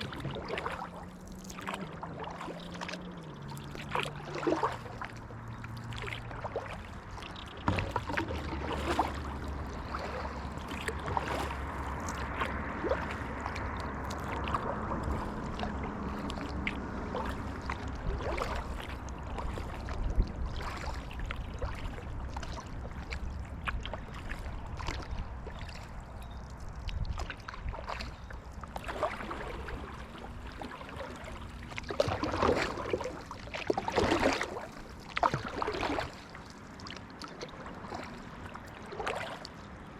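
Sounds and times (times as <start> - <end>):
paddle strokes in water: 0.0 - 39.9
water lapping against hull: 0.0 - 39.9.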